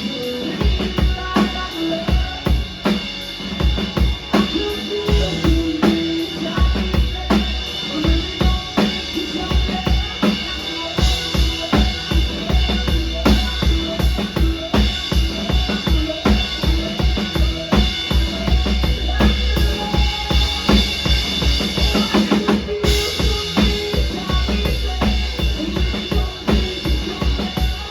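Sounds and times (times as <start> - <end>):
bass line: 0.0 - 27.9
rock band playing: 0.0 - 27.9.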